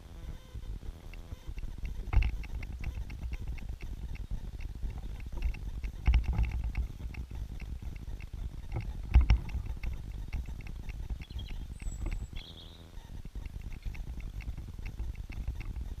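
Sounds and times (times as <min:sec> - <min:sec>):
woodpecker pecking: 0:01.1 - 0:16.0.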